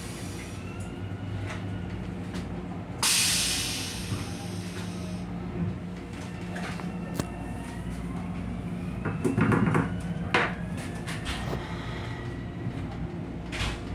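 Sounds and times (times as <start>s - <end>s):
moving train rumble: 0.0s - 13.9s.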